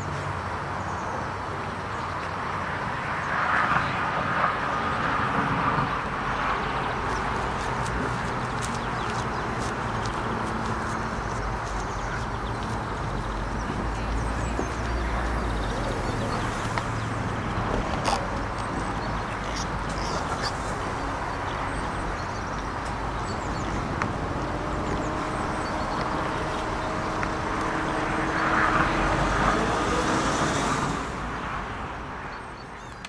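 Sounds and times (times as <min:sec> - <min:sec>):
road traffic noise: 0:00.0 - 0:33.0
vehicle passing humming: 0:03.3 - 0:32.2.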